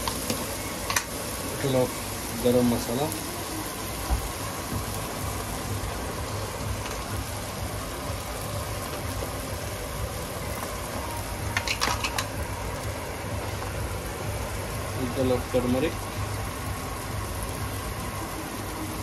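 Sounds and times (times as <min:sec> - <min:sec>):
masala sizzling in oil: 0:00.0 - 0:19.0.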